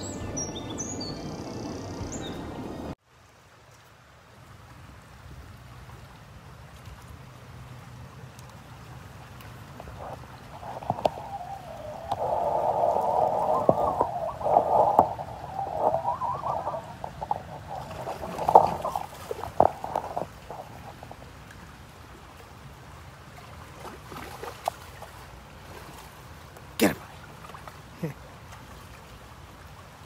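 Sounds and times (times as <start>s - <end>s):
water splashing and gurgling: 5.3s - 30.0s.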